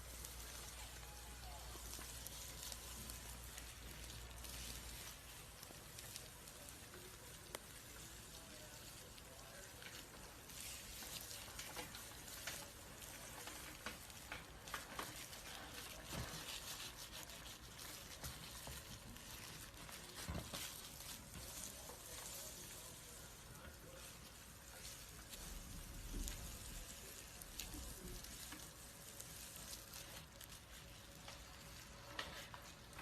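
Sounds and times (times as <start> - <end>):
snake skin rustling and crackling: 0.0 - 33.0.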